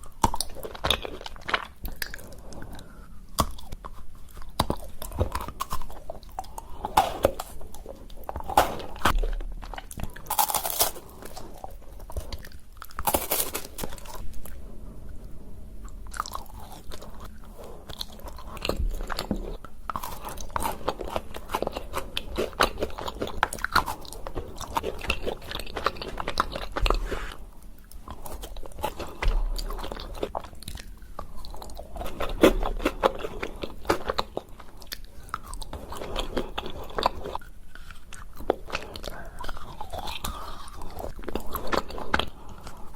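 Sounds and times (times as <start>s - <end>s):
person chewing crunchy candy: 0.0s - 42.9s.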